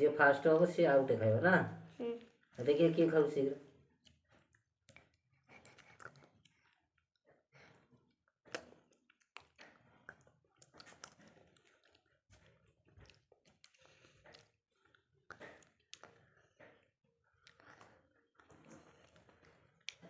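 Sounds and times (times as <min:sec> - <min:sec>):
soft chewing and slurping: 0:03.8 - 0:20.0.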